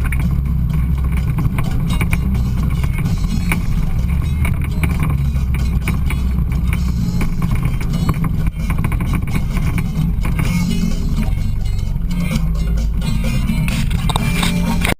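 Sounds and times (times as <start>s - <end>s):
vehicle engine rumbling: 0.0s - 14.9s.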